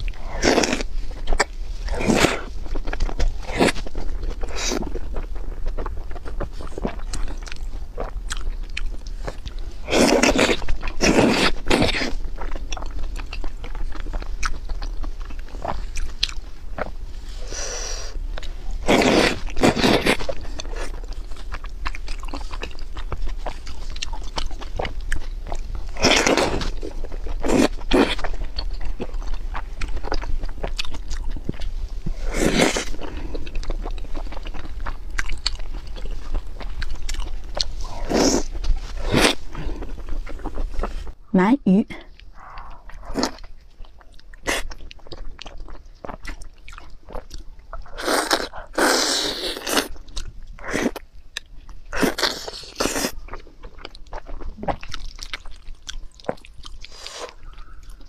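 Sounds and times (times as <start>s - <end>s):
wet chewing: 0.0s - 41.2s, 42.0s - 58.0s.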